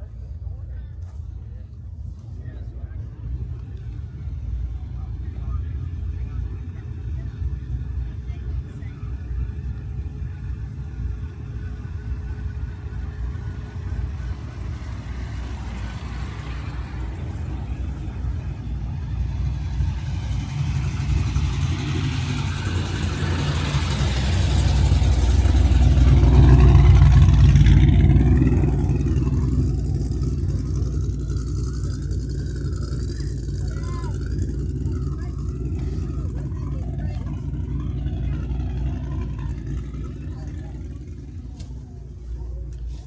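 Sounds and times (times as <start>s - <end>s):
car engine rumbling: 0.0s - 43.0s.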